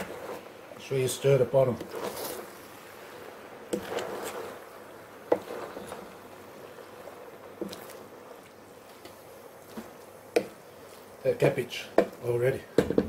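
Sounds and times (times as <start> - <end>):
spatula stirring stir-fry: 0.0 - 12.4.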